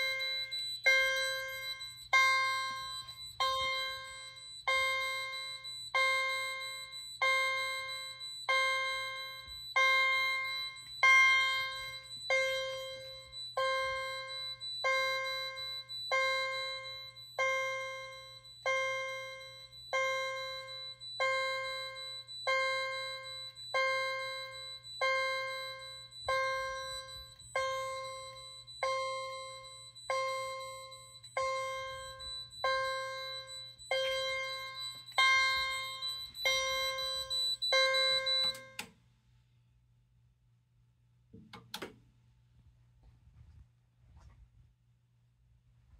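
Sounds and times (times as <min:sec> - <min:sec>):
faint steady high tone: 0:00.0 - 0:39.0
fire alarm chime strikes: 0:00.0 - 0:39.0.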